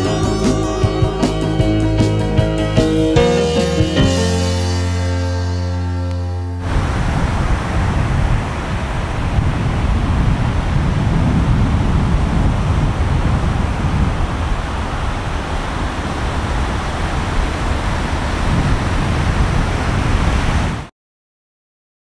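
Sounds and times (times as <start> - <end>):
ocean surf rushing: 0.0 - 20.9.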